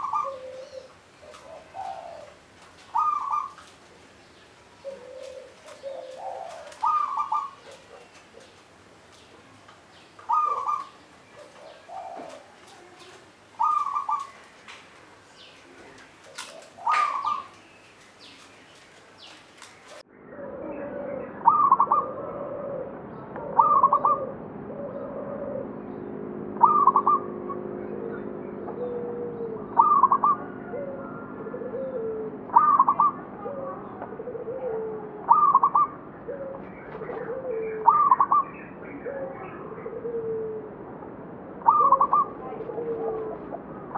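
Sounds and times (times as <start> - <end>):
dove cooing: 0.0 - 18.6, 19.2 - 40.8, 41.6 - 43.9
steady low hum: 0.0 - 43.9.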